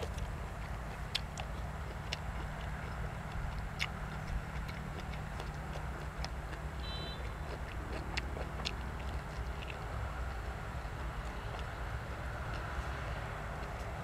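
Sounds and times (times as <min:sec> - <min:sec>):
person chewing food: 0:00.0 - 0:14.0
wet clicks of lips and teeth: 0:00.0 - 0:14.0.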